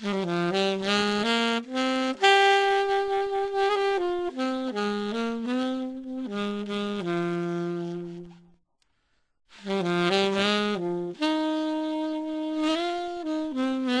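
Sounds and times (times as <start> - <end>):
slow wind instrument melody: 0.0 - 8.6, 9.5 - 14.0.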